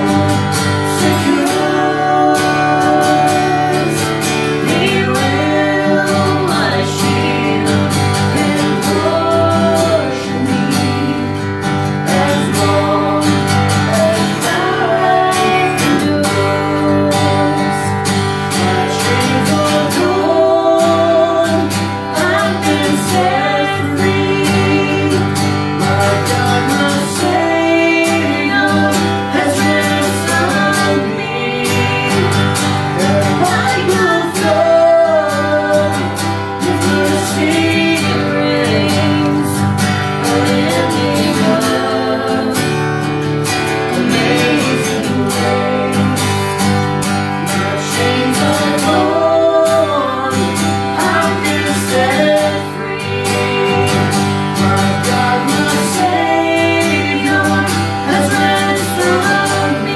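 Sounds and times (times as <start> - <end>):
acoustic guitar: 0.0 - 59.9
person singing country song: 0.0 - 59.9.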